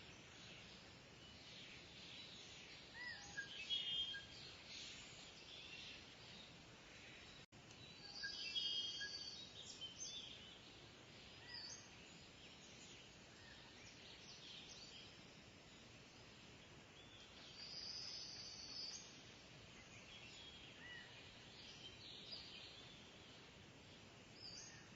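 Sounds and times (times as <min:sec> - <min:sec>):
outdoor background hiss: 0:00.0 - 0:24.9.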